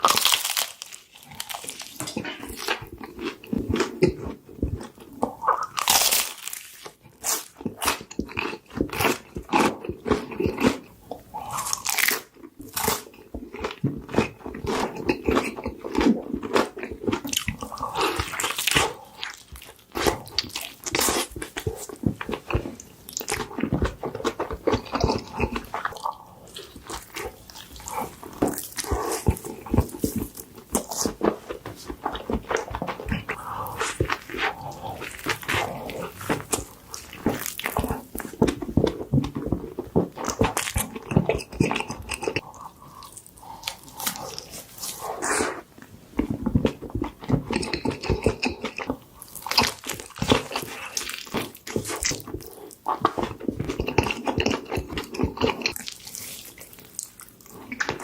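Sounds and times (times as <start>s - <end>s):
crunchy food being bitten: 0.0s - 58.0s
person chewing: 0.0s - 58.0s.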